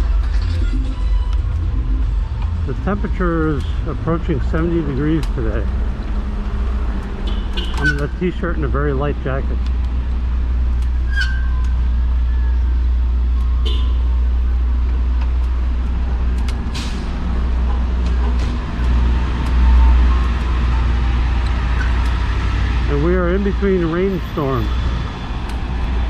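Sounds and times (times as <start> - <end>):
passing traffic rumble: 0.0 - 26.0.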